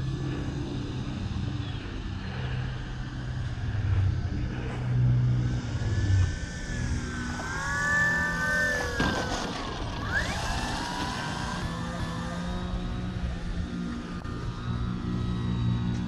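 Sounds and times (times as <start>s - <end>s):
model plane electric motor whining: 0.0s - 16.0s.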